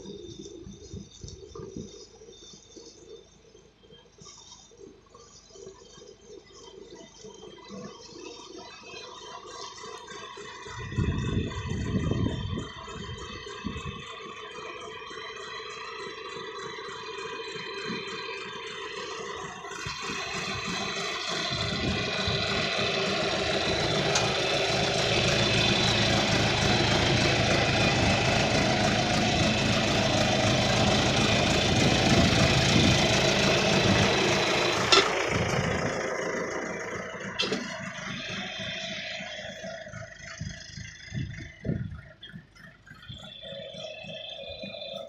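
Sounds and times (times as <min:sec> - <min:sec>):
backhoe engine running: 0:00.0 - 0:45.0.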